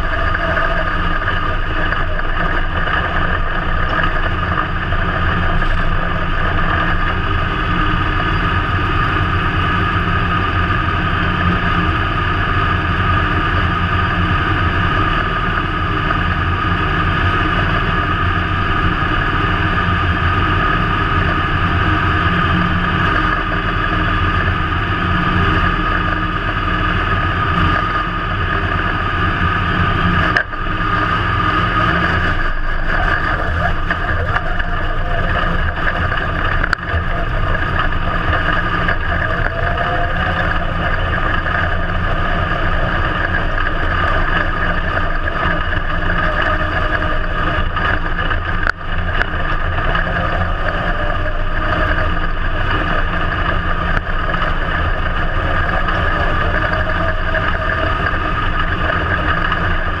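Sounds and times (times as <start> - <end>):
race car engine running loud: 0.0 - 60.0.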